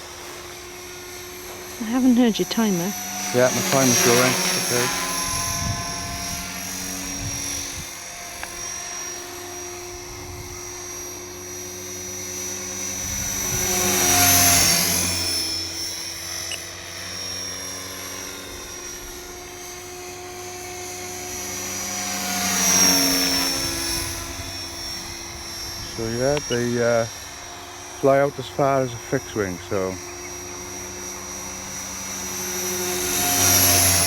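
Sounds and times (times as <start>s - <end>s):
rc helicopter motor and rotor whine: 0.0s - 34.0s.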